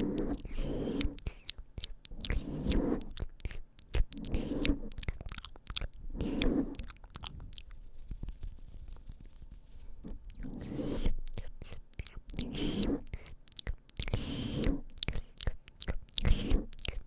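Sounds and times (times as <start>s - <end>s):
mouth clicks and smacks: 0.0s - 9.4s, 10.1s - 17.0s.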